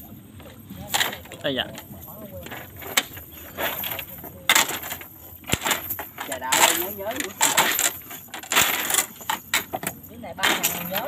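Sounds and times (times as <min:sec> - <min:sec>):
metal chain sinkers clinking: 0:00.0 - 0:11.0.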